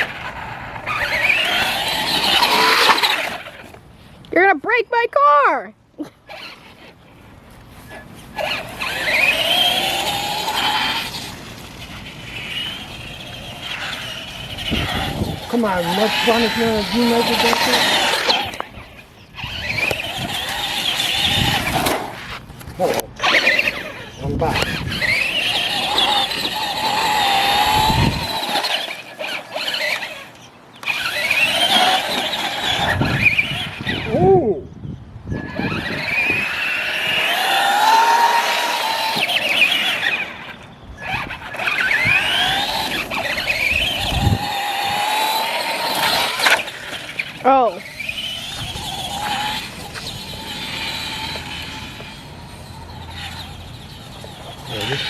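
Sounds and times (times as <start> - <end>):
rc car electric motor whining: 0.0 - 3.8, 6.2 - 7.0, 7.7 - 34.3, 35.2 - 55.0
tyre noise: 0.0 - 4.2, 6.0 - 34.5, 35.4 - 55.0.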